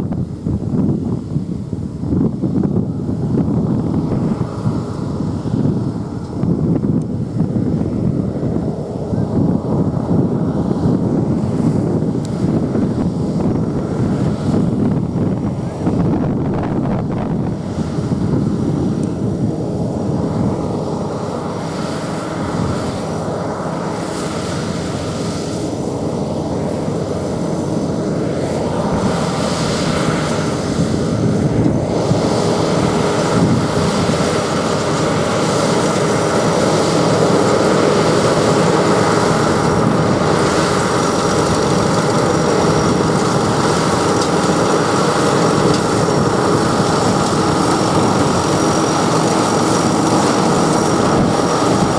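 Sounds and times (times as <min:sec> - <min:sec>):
combine harvester engine drone: 0:00.0 - 0:51.9.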